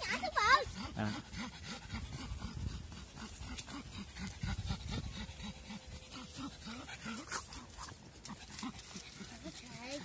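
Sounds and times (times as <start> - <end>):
dog panting hard: 0.0 - 10.0.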